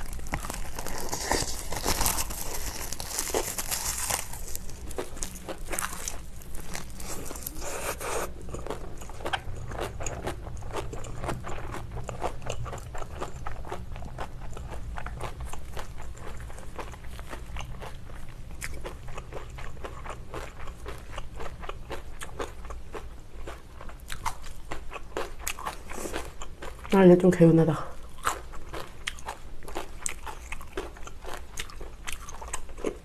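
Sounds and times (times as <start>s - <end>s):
crunchy kimchi being chewed: 0.0s - 33.0s.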